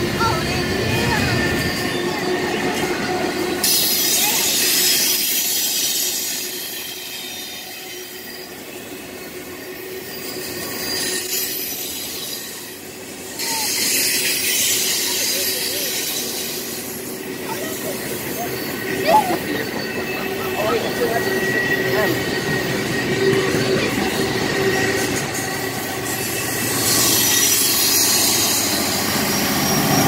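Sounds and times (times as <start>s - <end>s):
train wheels rolling on rail: 0.0s - 30.0s
wheels squealing: 0.1s - 30.0s.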